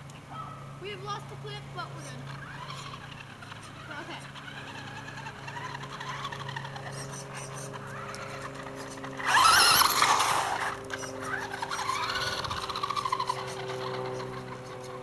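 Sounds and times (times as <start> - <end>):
rc car motor whining: 0.8 - 15.0.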